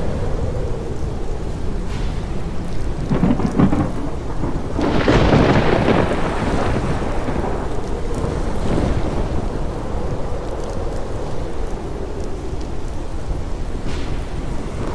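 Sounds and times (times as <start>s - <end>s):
crackling peal of thunder: 0.0s - 14.9s
rain: 0.0s - 14.9s
thunder crack: 0.0s - 14.9s.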